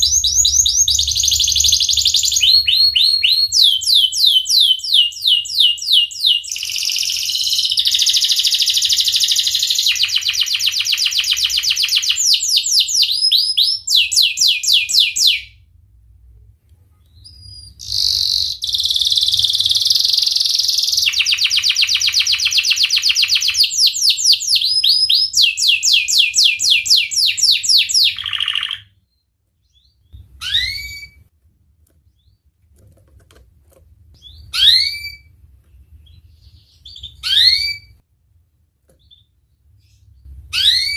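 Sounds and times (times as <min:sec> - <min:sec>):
canary singing trills: 0:00.0 - 0:15.5, 0:17.1 - 0:31.3, 0:34.2 - 0:38.0, 0:39.0 - 0:40.9
upslurred bird chirps: 0:00.0 - 0:15.5, 0:17.0 - 0:31.3, 0:34.2 - 0:38.0.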